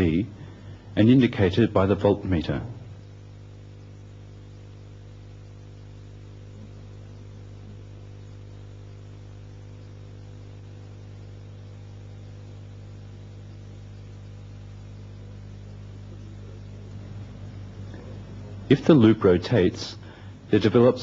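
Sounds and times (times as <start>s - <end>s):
constant hiss: 0.0s - 21.0s
electrical mains hum: 0.0s - 21.0s.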